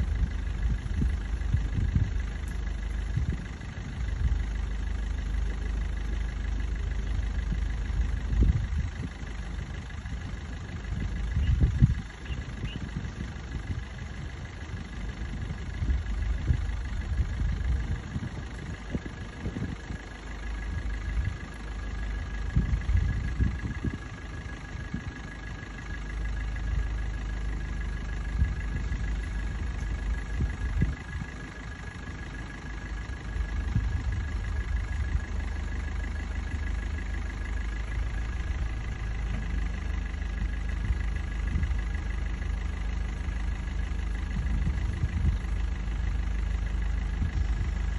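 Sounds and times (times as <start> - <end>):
vehicle engine idling: 0.0 - 47.9.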